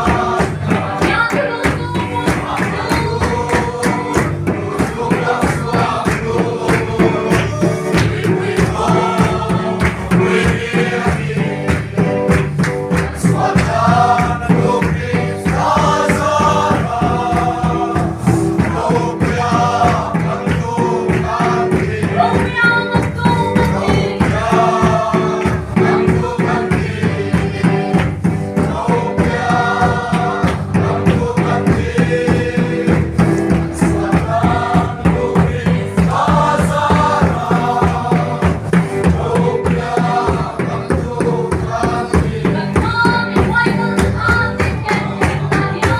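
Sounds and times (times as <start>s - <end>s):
group singing gospel song: 0.0s - 45.9s
rhythmic percussion beat: 0.0s - 45.9s.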